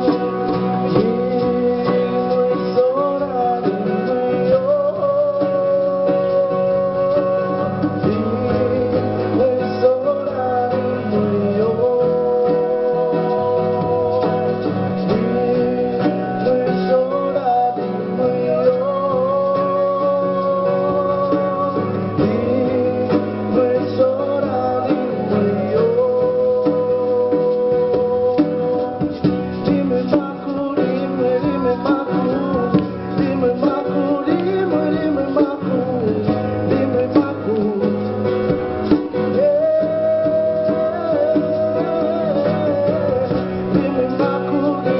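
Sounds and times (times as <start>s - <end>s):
person singing: 0.0s - 44.9s
plucked acoustic guitar: 0.0s - 44.9s.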